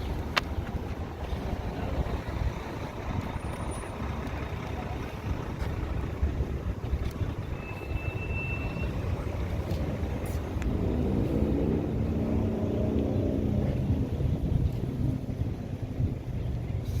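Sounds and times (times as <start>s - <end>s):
engine drone: 0.0s - 17.0s
low vehicle rumble: 0.0s - 17.0s.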